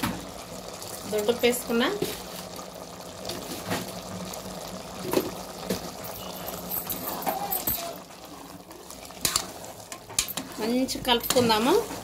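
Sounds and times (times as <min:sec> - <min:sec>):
food bubbling in a pot: 0:00.0 - 0:12.0.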